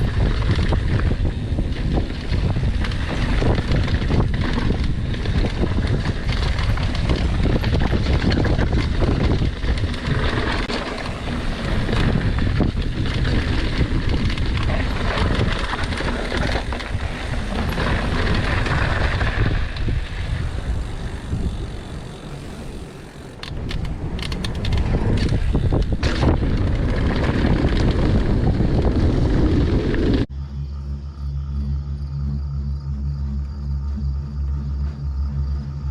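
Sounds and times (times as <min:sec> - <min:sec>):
mountain bike clattering on dirt trail: 0:00.0 - 0:30.2
wind buffeting microphone: 0:00.0 - 0:30.4.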